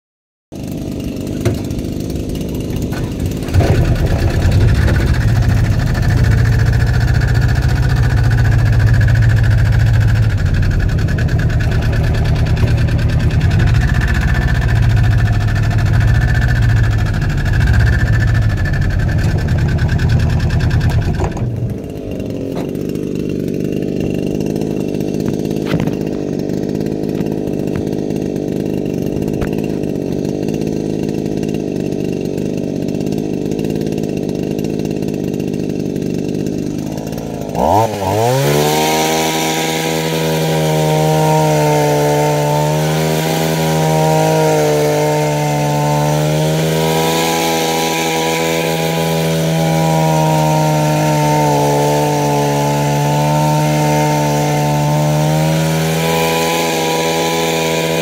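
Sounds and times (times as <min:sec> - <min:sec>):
hedge trimmer engine running: 0:00.6 - 0:58.0.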